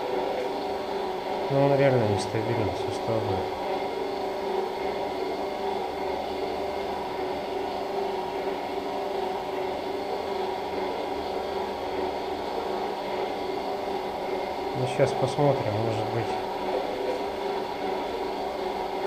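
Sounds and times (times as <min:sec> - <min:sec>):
hum and hiss of equipment: 0:00.0 - 0:19.0.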